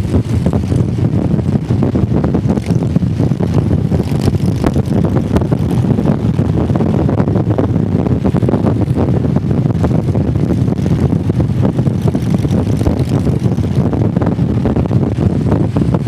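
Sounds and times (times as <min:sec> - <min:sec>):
motorcycle engine cruising: 0:00.0 - 0:16.0
wind noise on microphone: 0:00.0 - 0:16.0.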